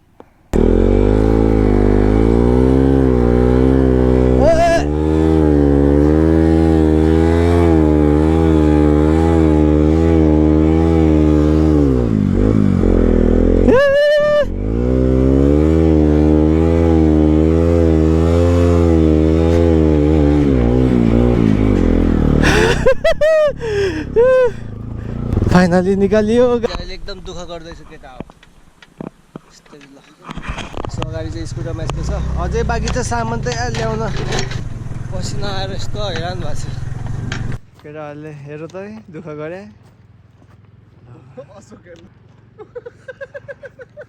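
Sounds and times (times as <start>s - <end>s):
motorcycle engine revving: 0.5s - 29.2s, 30.4s - 37.7s.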